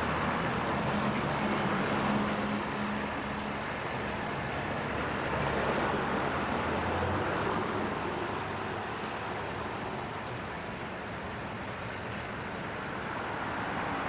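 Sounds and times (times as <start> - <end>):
steam locomotive rumble and hiss: 0.0 - 14.0.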